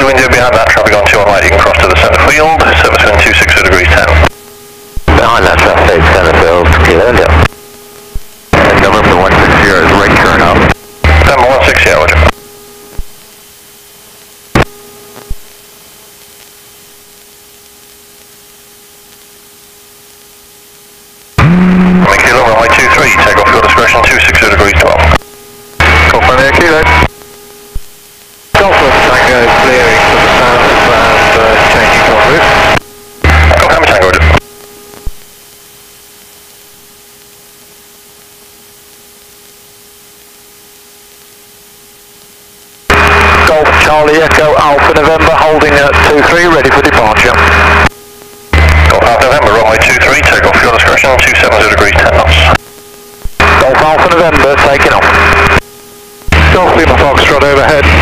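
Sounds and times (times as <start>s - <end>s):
faint steady hum: 0.0s - 58.0s
radio static hiss: 0.0s - 58.0s.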